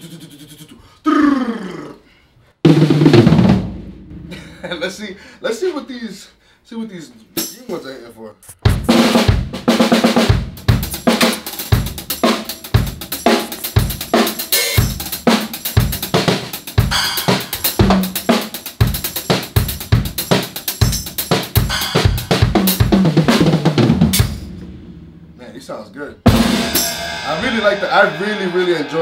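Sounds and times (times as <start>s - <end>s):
drum kit groove: 2.6s - 5.0s, 7.3s - 29.0s.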